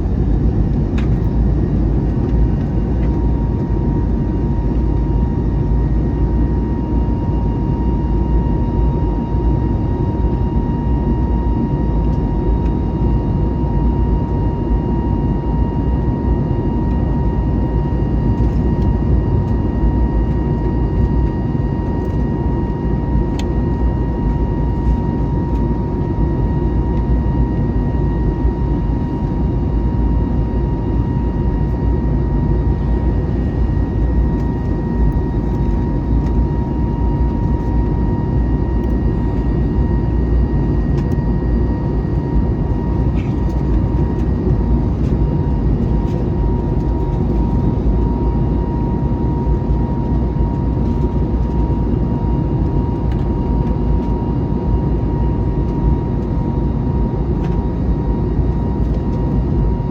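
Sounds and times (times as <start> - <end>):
airplane cabin engine roar: 0.0 - 59.9.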